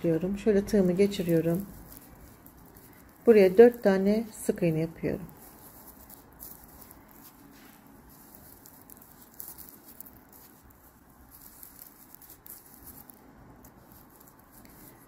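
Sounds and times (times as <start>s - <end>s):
yarn rustling and ticking: 0.0s - 15.0s.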